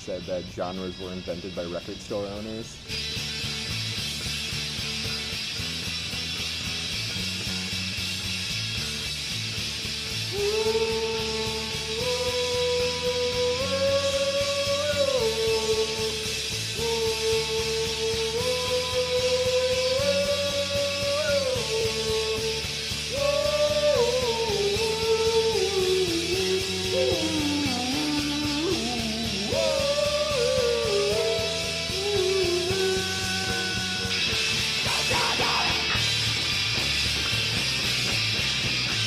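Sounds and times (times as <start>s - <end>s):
guitar: 0.0s - 39.0s
indie rock band playing: 0.0s - 39.0s.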